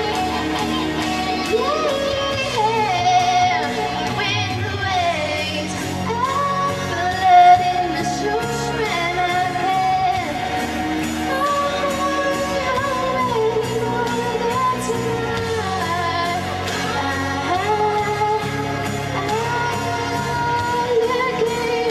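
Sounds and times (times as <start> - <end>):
instrumental accompaniment: 0.0 - 21.9
woman singing a pop ballad: 0.0 - 21.9.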